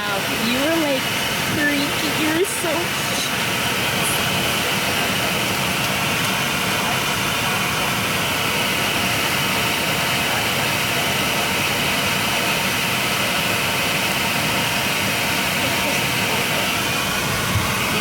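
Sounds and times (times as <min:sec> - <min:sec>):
jet airliner cabin noise: 0:00.0 - 0:18.0.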